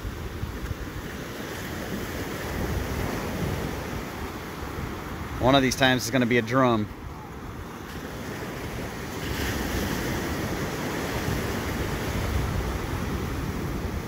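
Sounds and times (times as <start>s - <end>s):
wind rumbling on microphone: 0.0s - 6.0s, 6.9s - 14.0s
surf breaking on a beach: 0.0s - 14.0s.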